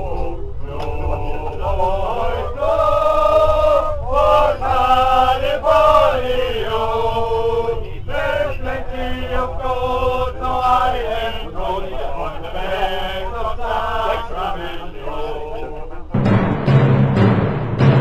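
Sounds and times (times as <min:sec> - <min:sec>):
men chanting in held notes: 0:00.0 - 0:16.2
low rumble: 0:00.0 - 0:16.8.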